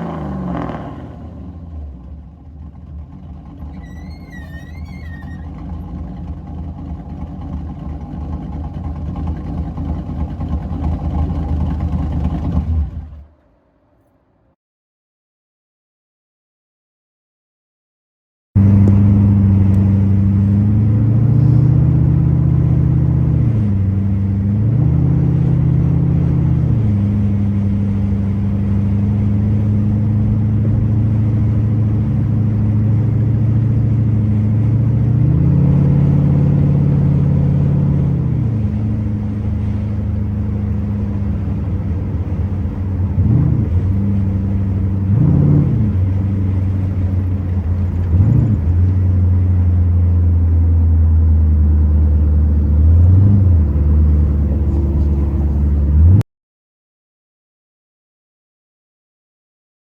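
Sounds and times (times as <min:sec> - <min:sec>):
car engine idling and revving: 0:00.0 - 0:14.1, 0:18.6 - 0:56.2.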